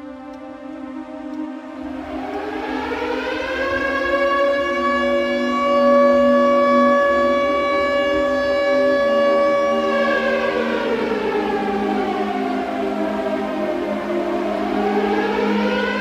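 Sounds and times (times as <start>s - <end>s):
air-raid siren wailing: 0.0s - 16.0s
low sustained tone: 0.0s - 16.0s.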